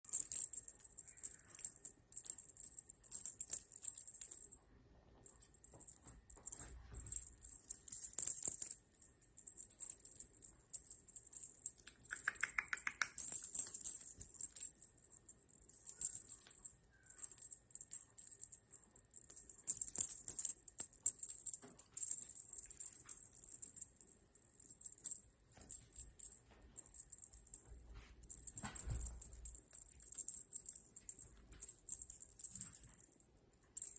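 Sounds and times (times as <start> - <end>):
small jingle bell rattling: 0.0 - 4.6, 5.2 - 33.9.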